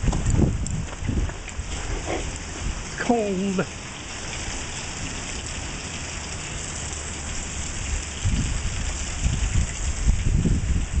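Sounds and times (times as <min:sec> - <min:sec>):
heavy rain on roof and ground: 0:00.0 - 0:11.0
low buffeting rumbles: 0:00.0 - 0:11.0.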